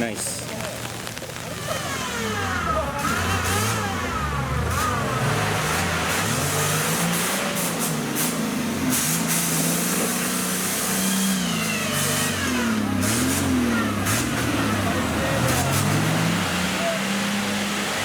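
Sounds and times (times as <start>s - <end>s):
truck engine revving: 0.4s - 18.0s.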